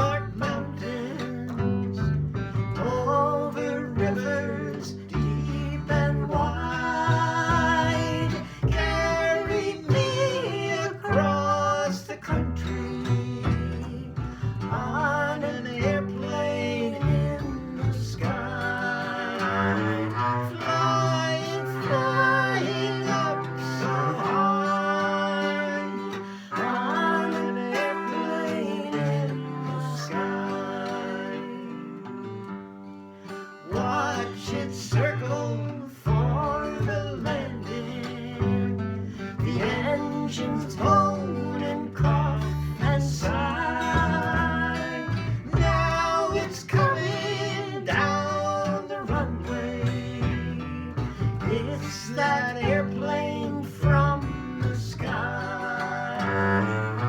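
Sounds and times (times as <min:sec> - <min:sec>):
double bass: 0:00.0 - 0:57.0
guitar picking a melody: 0:00.0 - 0:57.0.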